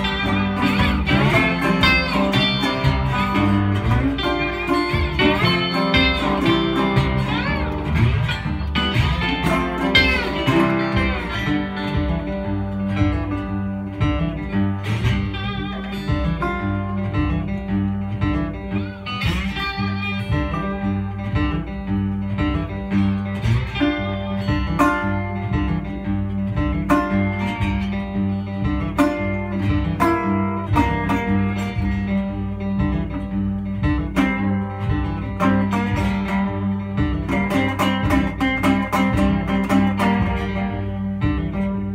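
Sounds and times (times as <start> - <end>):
low bass pulse: 0.0 - 41.9
resonator guitar lead: 0.0 - 41.9
second guitar: 0.0 - 41.9.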